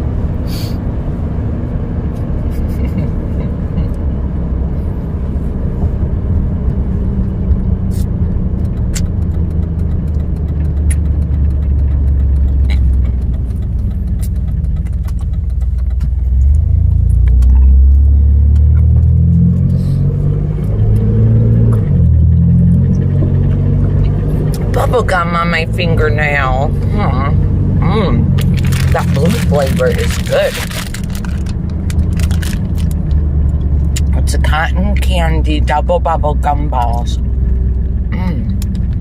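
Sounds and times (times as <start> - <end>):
road noise: 0.0 - 39.0
truck engine drone: 0.0 - 39.0.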